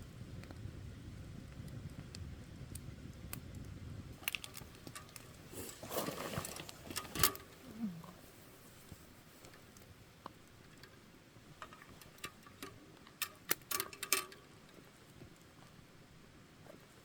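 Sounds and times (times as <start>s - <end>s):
campfire crackling and popping: 0.0s - 7.7s, 8.6s - 17.0s.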